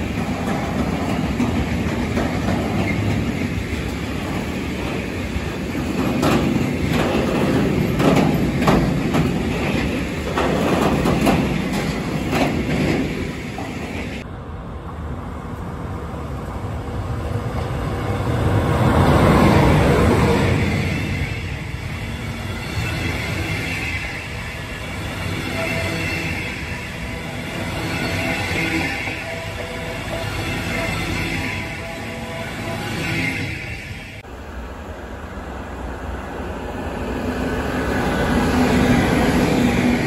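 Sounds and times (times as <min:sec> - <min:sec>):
freight train rumbling past: 0:00.0 - 0:40.0
passenger train rumble: 0:00.0 - 0:40.0.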